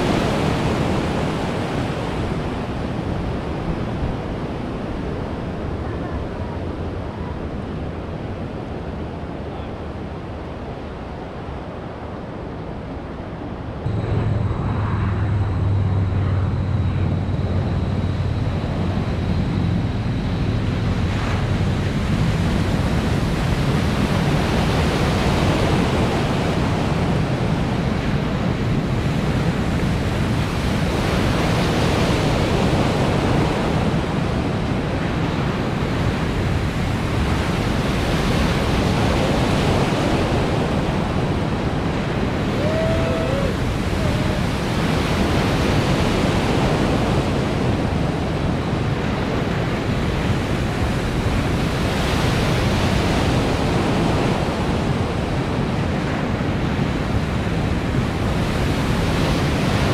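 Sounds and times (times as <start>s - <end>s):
waves breaking and rushing: 0.0s - 59.9s.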